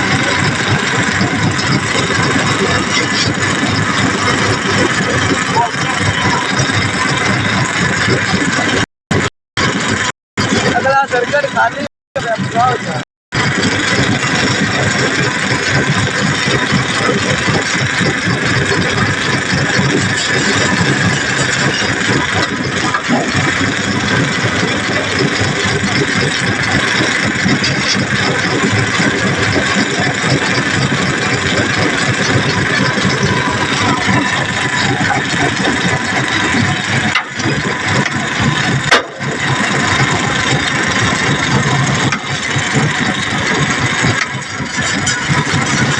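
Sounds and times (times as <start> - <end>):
vehicle engine running loudly: 0.0 - 45.9.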